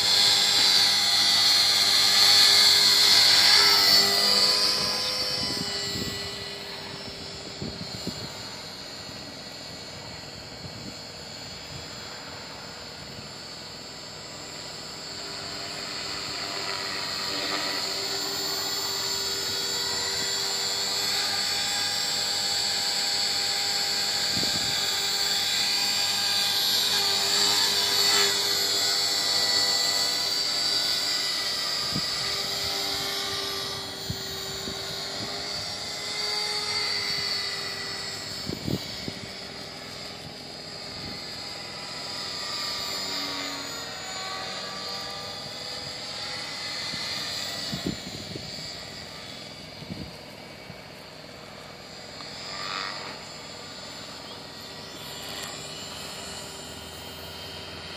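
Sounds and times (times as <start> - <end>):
rc helicopter motor whine: 0.0 - 57.9
rotor whir: 0.0 - 57.9.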